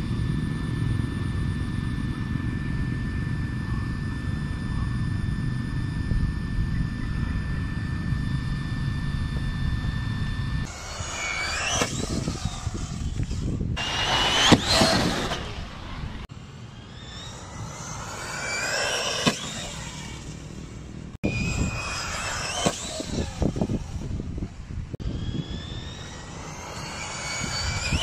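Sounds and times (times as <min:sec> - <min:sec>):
rc car electric motor whining: 0:00.0 - 0:28.0.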